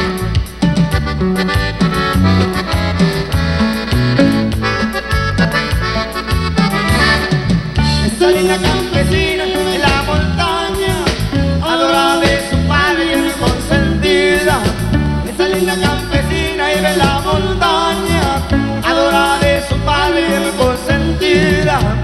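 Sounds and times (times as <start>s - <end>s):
accordion melody: 0.0s - 22.0s
drums: 0.0s - 22.0s
electric bass: 0.0s - 22.0s.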